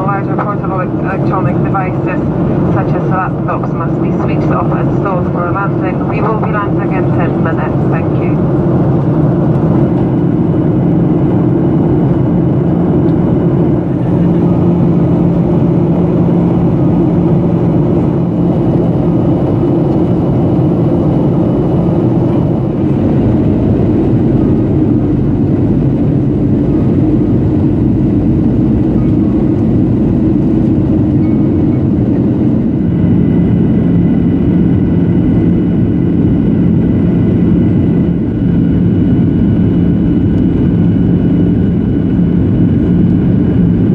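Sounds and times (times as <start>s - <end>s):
jet engine drone: 0.0s - 43.9s
low hum: 0.0s - 43.9s.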